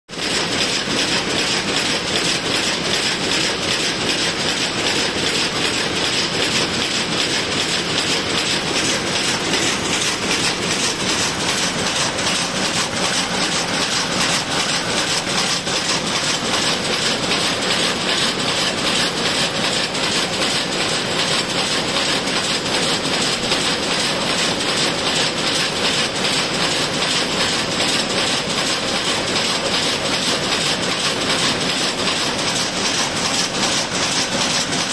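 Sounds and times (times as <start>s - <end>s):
loom rhythmic mechanical clatter: 0.1s - 34.9s.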